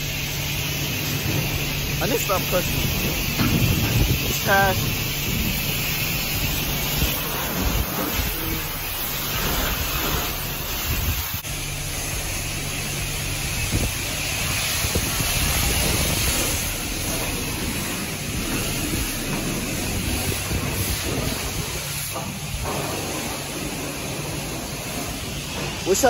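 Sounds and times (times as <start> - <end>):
pressure washer spraying water: 0.0 - 26.0.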